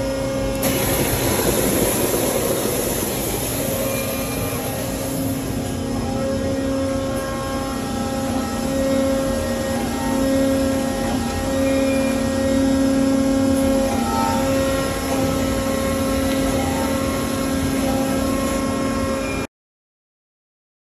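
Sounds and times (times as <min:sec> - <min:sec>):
waterjet cutting machine drone: 0:00.0 - 0:19.5.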